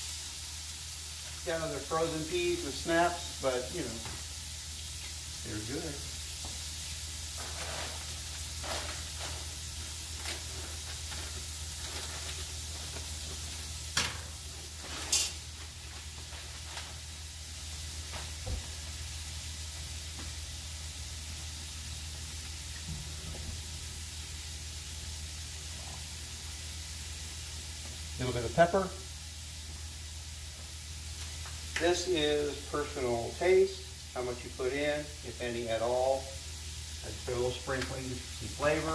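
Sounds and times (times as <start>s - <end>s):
bacon sizzling: 0.0s - 38.9s.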